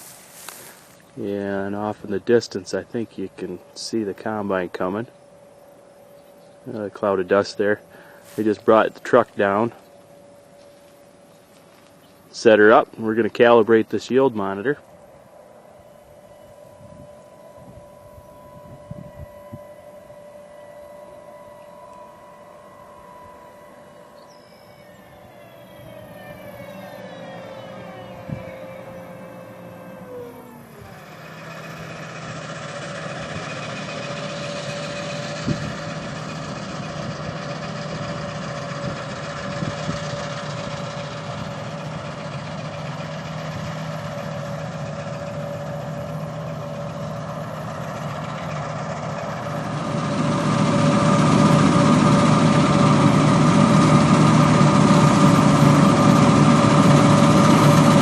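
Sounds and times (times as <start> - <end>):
combine harvester engine drone: 0.0 - 58.0
whine: 0.0 - 58.0.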